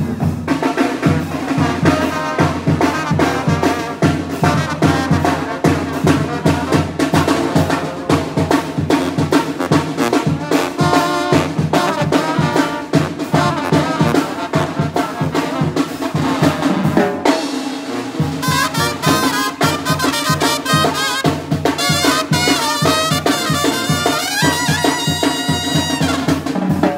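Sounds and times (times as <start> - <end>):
bass drum and snare beat: 0.0 - 26.9
brass band playing: 0.0 - 26.9.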